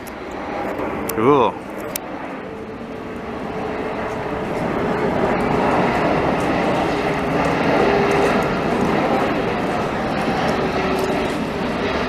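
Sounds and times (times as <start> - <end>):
airliner engines flying past: 0.0 - 12.0.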